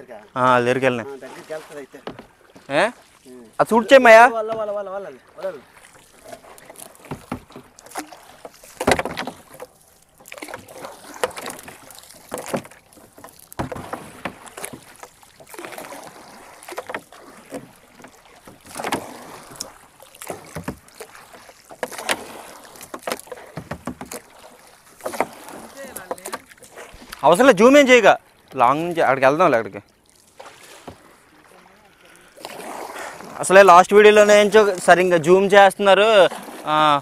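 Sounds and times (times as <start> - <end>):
splashes and knocks: 0.0 - 37.0
water sloshing against hull: 0.0 - 37.0.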